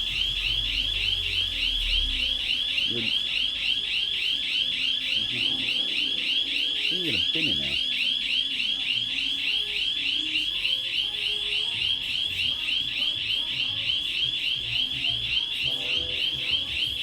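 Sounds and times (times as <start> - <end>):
electronic warbling alarm: 0.0 - 17.0.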